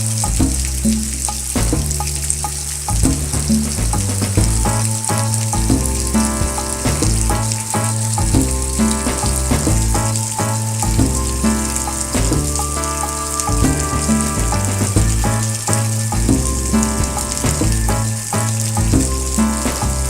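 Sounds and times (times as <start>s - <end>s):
music with stepping bass: 0.0s - 20.0s
rain hissing: 0.0s - 20.0s.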